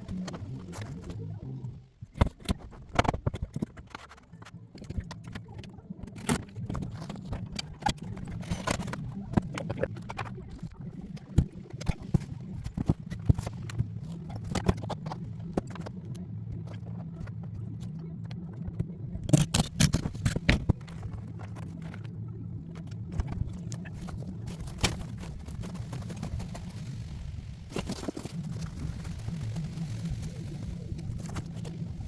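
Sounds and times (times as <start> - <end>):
low hum: 4.4 - 32.0.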